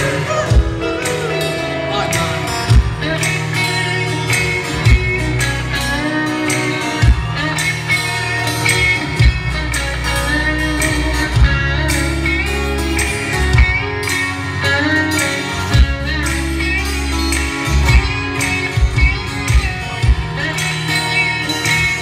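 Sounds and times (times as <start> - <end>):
bass: 0.0 - 22.0
electric guitar: 0.0 - 22.0.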